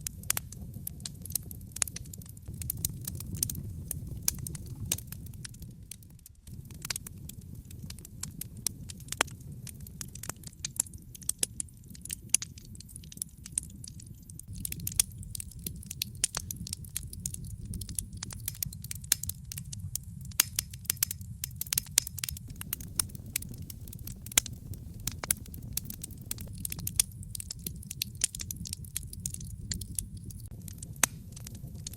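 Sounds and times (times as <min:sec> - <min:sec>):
low rumble of flame: 0:00.0 - 0:31.9
wood fire crackling and popping: 0:00.0 - 0:31.9.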